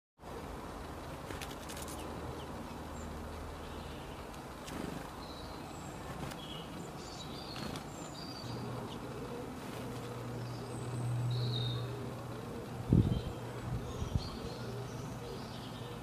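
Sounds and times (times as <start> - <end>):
low steady hum: 0.2 - 16.0.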